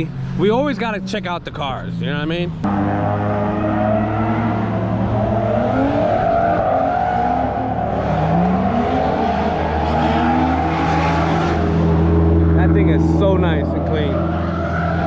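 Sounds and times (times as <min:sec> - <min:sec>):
car engine steady low note: 0:00.0 - 0:06.5, 0:07.2 - 0:15.0
car engines revving: 0:00.0 - 0:15.0.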